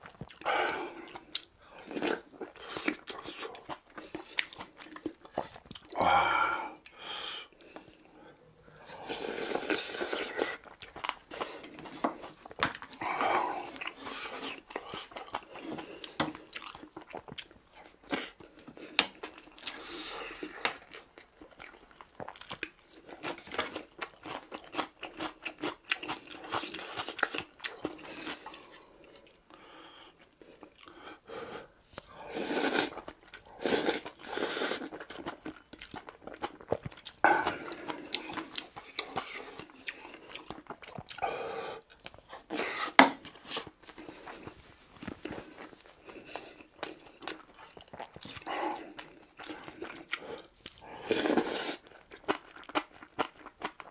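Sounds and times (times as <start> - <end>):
close chewing and eating: 0.0 - 53.9.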